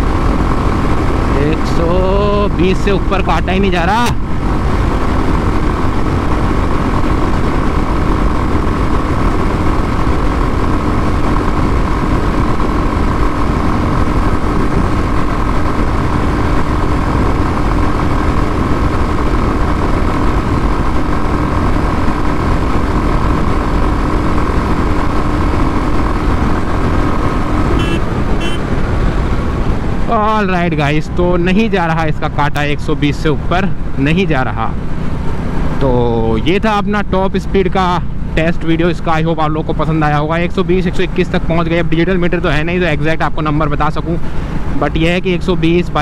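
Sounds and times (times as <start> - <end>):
heavy wind rush: 0.0 - 38.5
motorcycle engine drone: 0.0 - 46.0.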